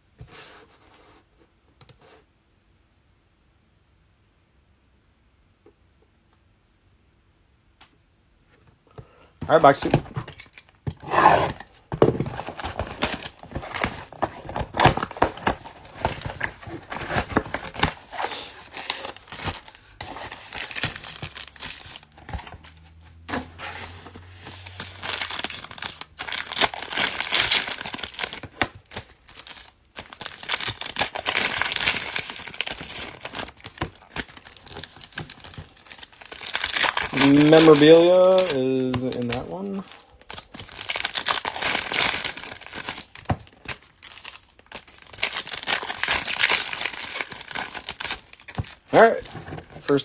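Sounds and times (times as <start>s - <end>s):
plastic wrapping crinkling and tearing: 9.6s - 50.0s.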